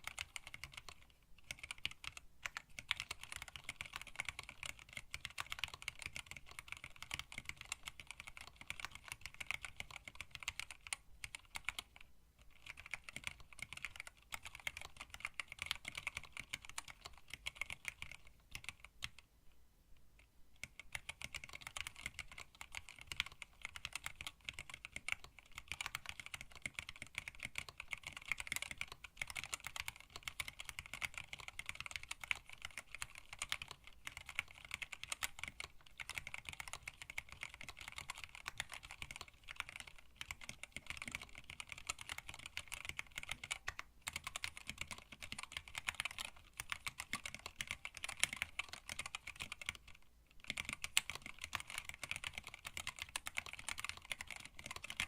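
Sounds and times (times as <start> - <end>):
mechanical keyboard typing: 0.0 - 19.3, 20.6 - 55.0.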